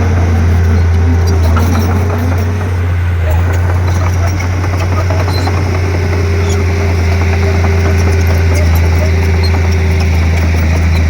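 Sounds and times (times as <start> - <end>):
bulldozer diesel engine drone: 0.0 - 11.0.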